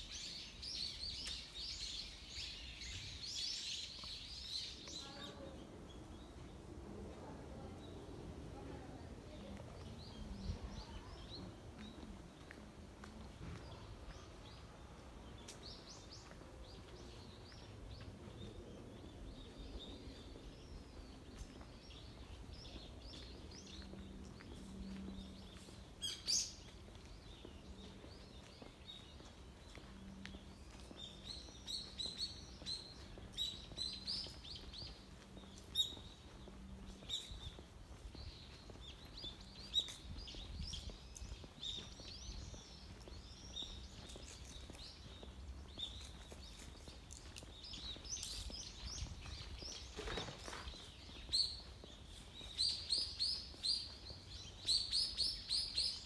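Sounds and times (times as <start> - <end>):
faint outdoor background noise: 0.0 - 56.0
small birds chirping: 0.0 - 56.0.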